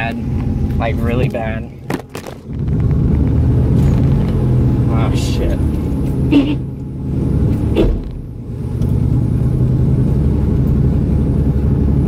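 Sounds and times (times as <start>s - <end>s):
rotary car engine droning: 0.0s - 12.0s.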